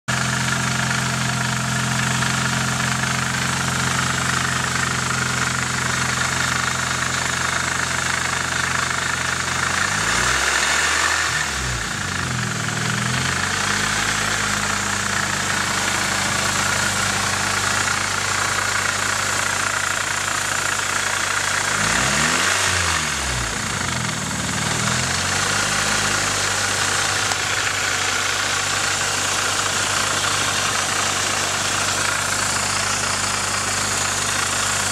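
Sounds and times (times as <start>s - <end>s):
car engine idling and revving: 0.1s - 34.9s
high engine rattle: 0.1s - 34.9s.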